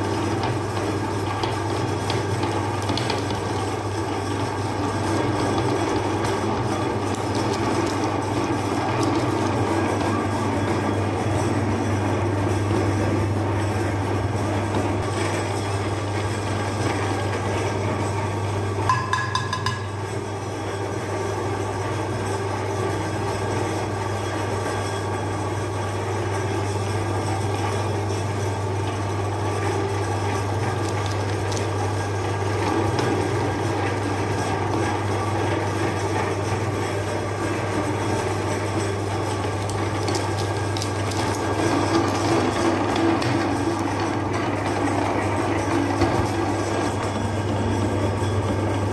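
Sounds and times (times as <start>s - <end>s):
electric meat grinder running: 0.0s - 18.8s, 20.1s - 48.9s.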